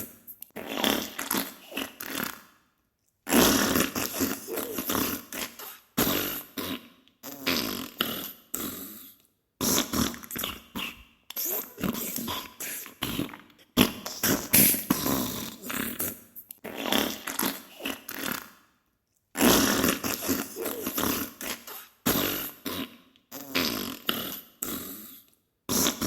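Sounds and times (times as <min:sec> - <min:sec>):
sputtering fart bursts: 0:00.0 - 0:02.5, 0:03.3 - 0:09.0, 0:09.6 - 0:18.6, 0:19.4 - 0:24.8, 0:25.7 - 0:26.0.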